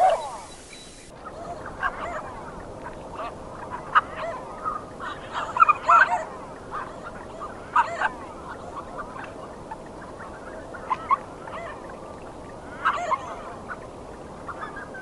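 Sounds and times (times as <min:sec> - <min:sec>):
ducks calling in a flock: 0:00.0 - 0:15.0.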